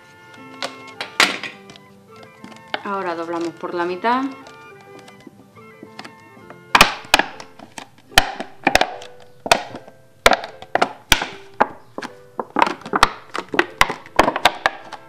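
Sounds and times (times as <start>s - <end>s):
soft background music: 0.0s - 15.0s
thin plastic crackling and popping: 0.2s - 15.0s.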